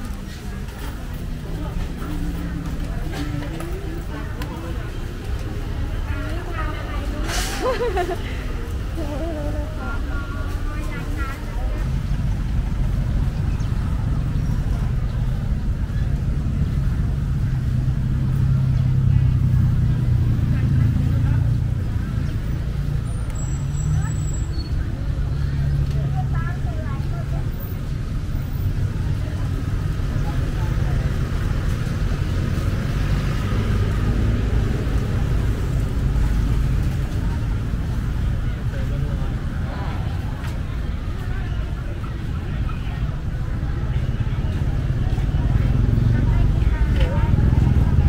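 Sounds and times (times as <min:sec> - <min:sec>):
street noise: 0:00.0 - 0:48.0.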